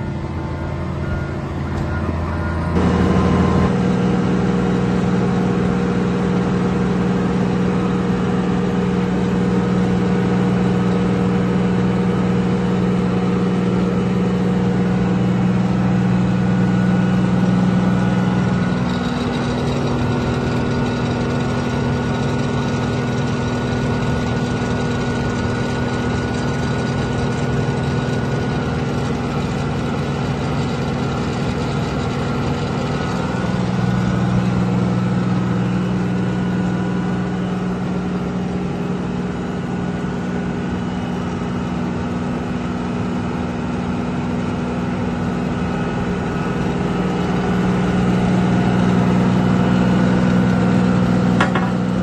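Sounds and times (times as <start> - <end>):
heavy diesel engine idling: 0.0 - 52.0.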